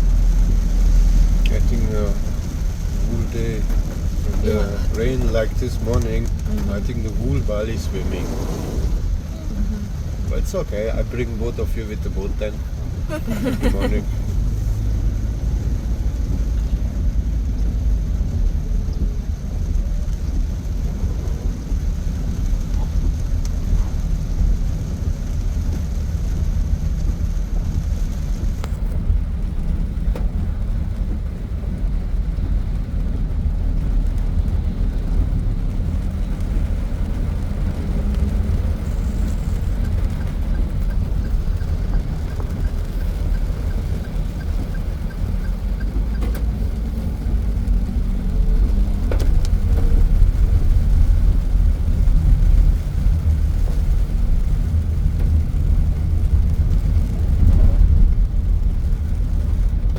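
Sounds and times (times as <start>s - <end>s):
car driving through flooded streets: 0.0s - 59.9s.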